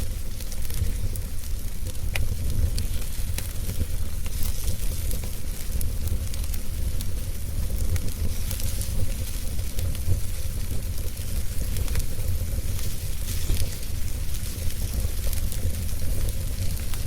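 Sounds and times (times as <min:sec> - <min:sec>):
campfire crackles and pops: 0:00.0 - 0:17.0
fire low rumble: 0:00.0 - 0:17.0.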